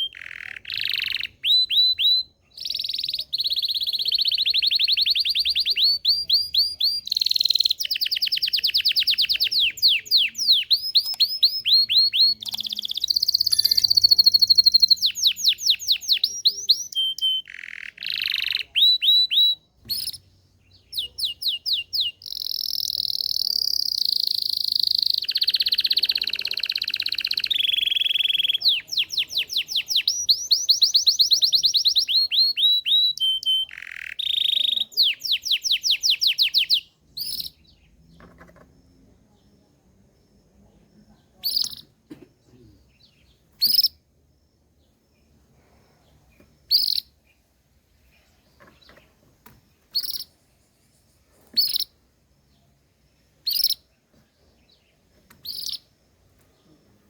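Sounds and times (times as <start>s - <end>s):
canary singing trills: 0.0s - 39.6s, 41.0s - 42.0s, 42.8s - 49.2s, 49.8s - 56.8s.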